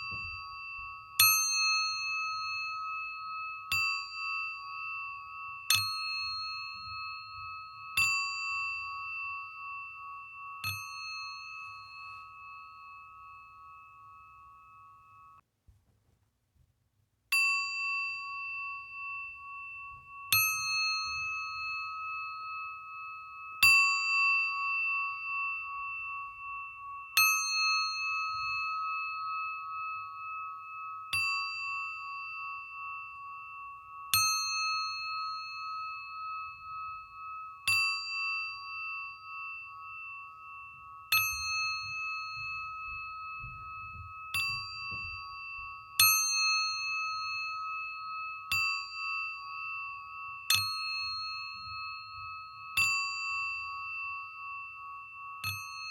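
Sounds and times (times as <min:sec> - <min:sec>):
singing bowl ringing: 0:00.0 - 0:15.4, 0:17.3 - 0:55.9.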